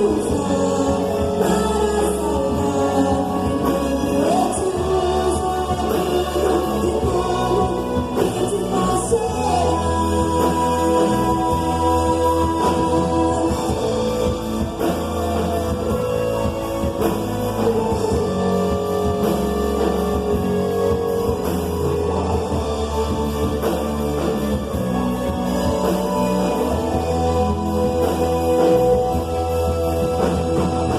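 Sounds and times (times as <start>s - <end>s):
gospel rock band playing: 0.0s - 30.9s
person singing: 0.0s - 30.9s.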